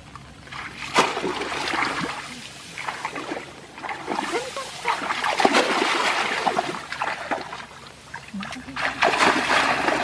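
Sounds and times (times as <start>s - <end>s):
shallow water splashing: 0.5s - 10.0s.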